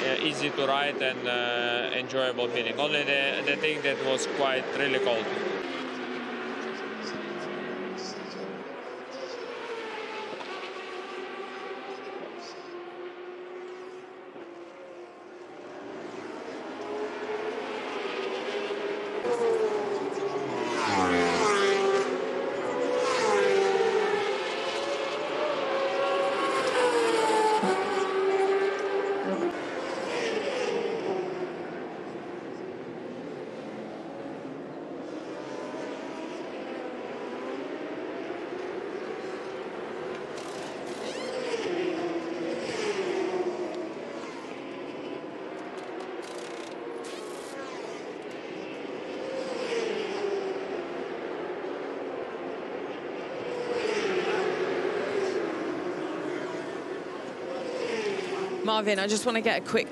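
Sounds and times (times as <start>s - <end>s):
racing motorcycle engines revving: 0.0s - 59.9s.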